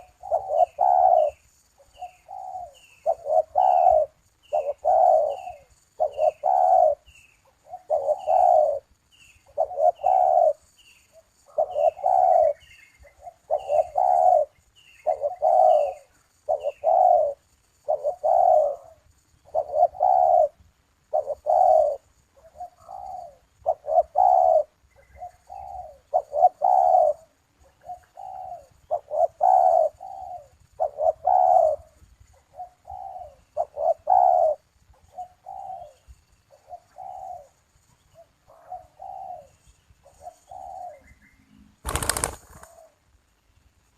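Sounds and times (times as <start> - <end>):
doves cooing: 0.0 - 10.7, 11.4 - 41.1, 41.8 - 43.0.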